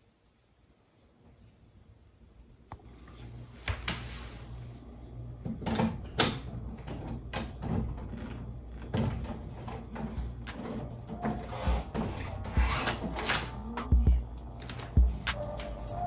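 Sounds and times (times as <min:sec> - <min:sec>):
steady low hum: 0:01.7 - 0:16.0.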